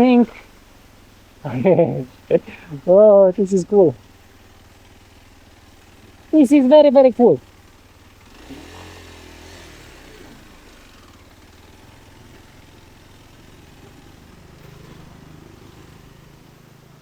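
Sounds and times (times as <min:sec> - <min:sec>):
faint motorcycle engine running: 0:00.0 - 0:17.0
soft hiss: 0:00.0 - 0:17.0.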